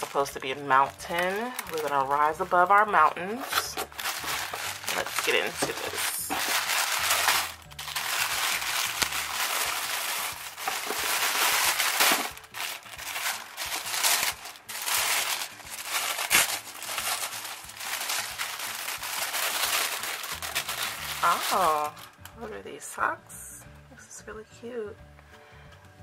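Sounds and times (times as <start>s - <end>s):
tissue paper crinkling: 0.0s - 22.2s.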